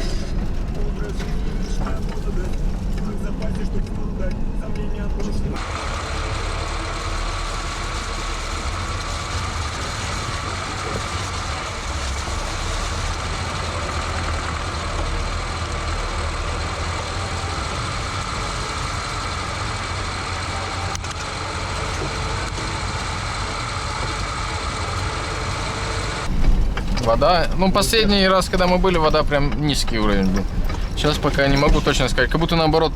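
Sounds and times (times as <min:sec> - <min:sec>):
vehicle engine humming: 0:00.0 - 0:32.9.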